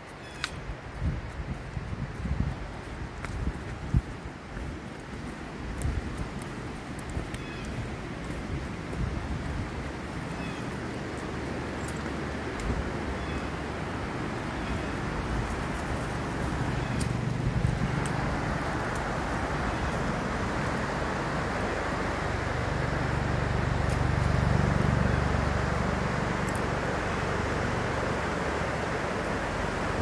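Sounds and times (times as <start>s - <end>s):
river rapids roaring: 4.3s - 30.0s.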